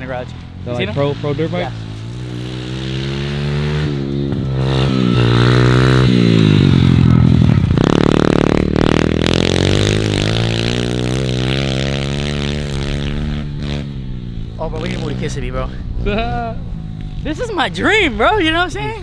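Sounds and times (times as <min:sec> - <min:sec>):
small pit bike engine revving: 0:00.0 - 0:15.7.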